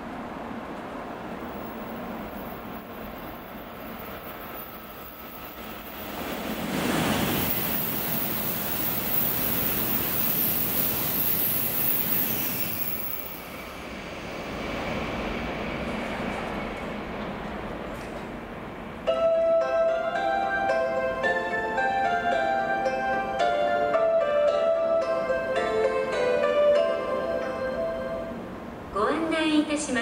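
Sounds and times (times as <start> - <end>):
high-speed train passing: 0.0 - 30.0.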